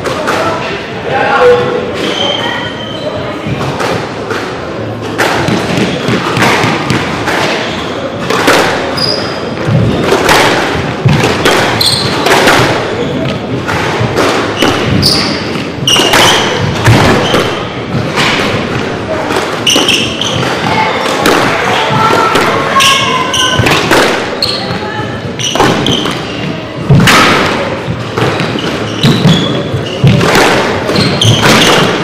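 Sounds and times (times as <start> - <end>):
shoes squeaking on wooden floor: 1.4 - 3.4, 5.4 - 32.0
squash ball thuds: 3.5 - 32.0.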